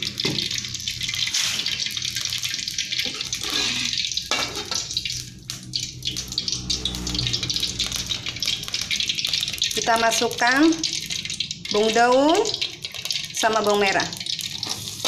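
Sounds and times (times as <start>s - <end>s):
oil sizzling in a frying pan: 0.0s - 15.0s.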